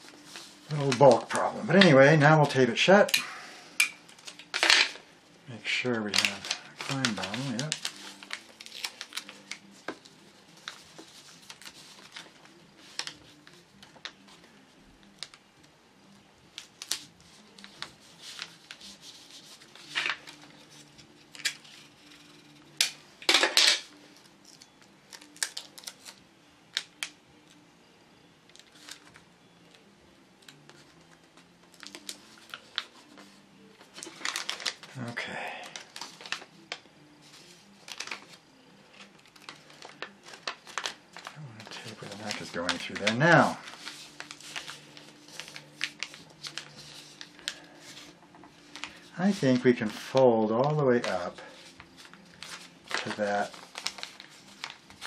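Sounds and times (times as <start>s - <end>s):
paper rustling and crinkling: 0.0s - 3.1s, 5.6s - 15.4s, 16.5s - 26.2s, 28.5s - 55.0s.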